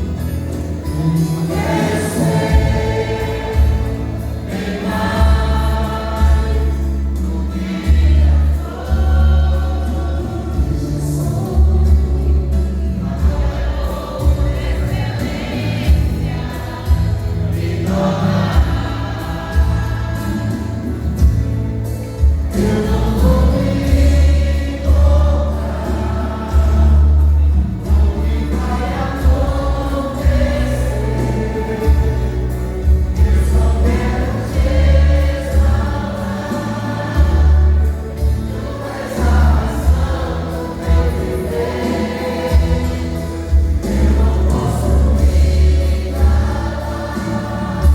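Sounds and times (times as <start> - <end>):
accompaniment with heavy bass: 0.0 - 47.9
vocal group singing in harmony: 0.0 - 47.9.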